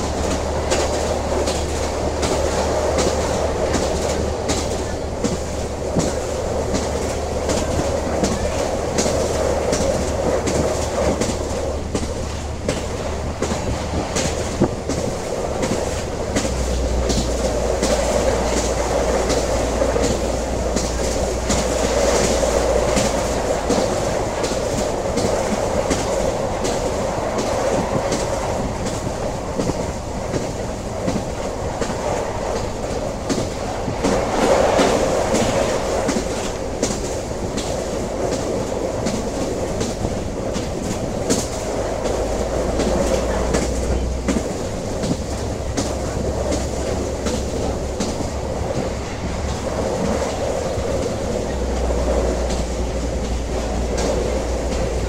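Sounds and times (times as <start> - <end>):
train rumbling along track: 0.0 - 55.0.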